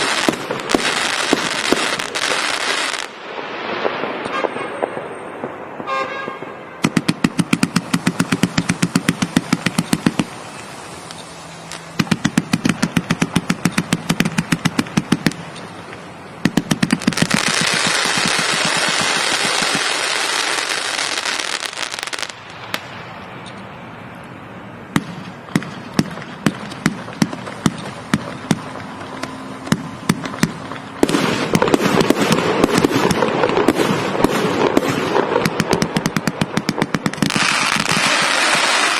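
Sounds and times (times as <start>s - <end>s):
fireworks rapid shots: 0.0s - 15.6s, 16.4s - 22.9s, 24.9s - 38.9s
fireworks single shots: 0.0s - 23.1s, 24.9s - 38.9s
fireworks dense crackling: 0.0s - 38.9s.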